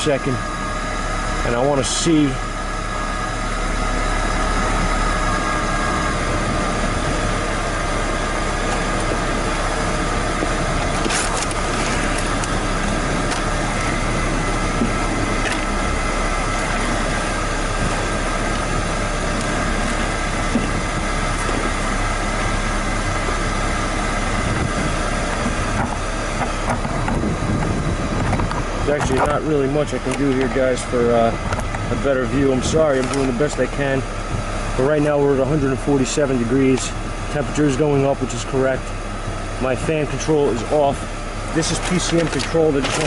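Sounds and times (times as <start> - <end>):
car engine idling: 0.0 - 43.0
engine clatter: 0.0 - 43.0.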